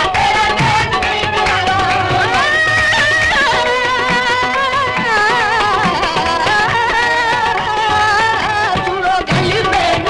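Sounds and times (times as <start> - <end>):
hand-drum beats: 0.0 - 10.0
ornamented vocal melody: 0.0 - 10.0.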